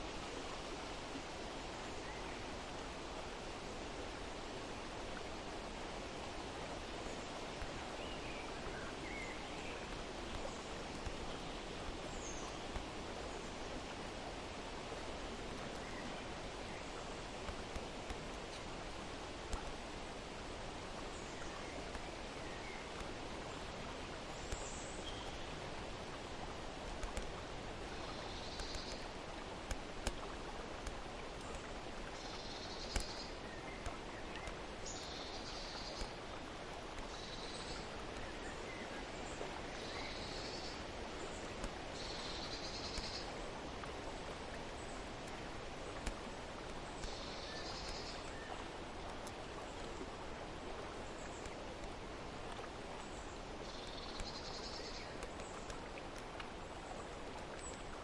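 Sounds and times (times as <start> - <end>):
rushing hiss of flowing water: 0.0 - 58.0.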